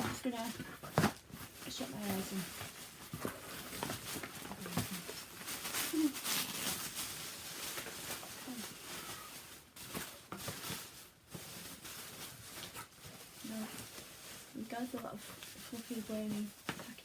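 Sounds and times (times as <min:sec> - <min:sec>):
paper and packaging crinkling: 0:00.0 - 0:17.0.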